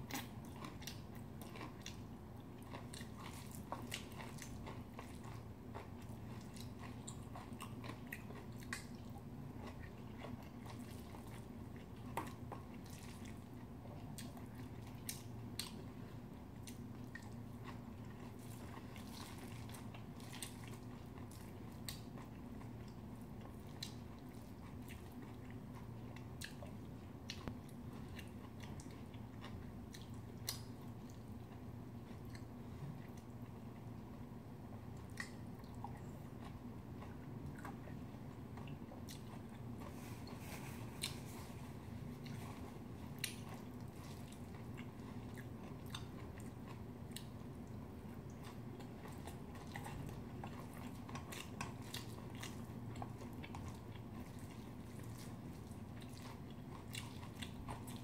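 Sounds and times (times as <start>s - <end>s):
chewing and mouth sounds: 0.0s - 34.3s, 34.9s - 58.0s
steady low hum: 0.0s - 58.0s.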